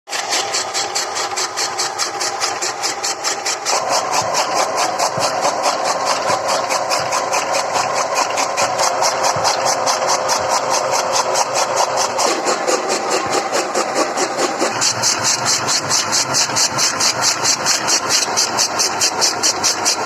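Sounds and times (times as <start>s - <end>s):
engine running with even beat: 0.1s - 20.0s.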